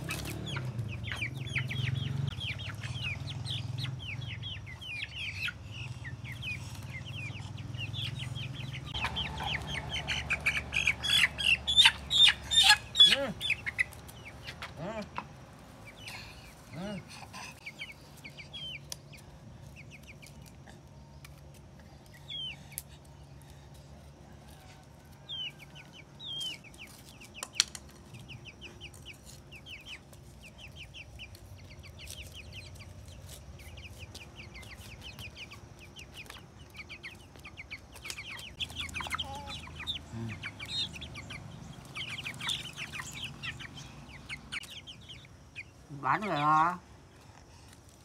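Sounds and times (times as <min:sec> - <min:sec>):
chickens clucking: 0:00.0 - 0:48.0
high chick peeps: 0:00.0 - 0:48.0.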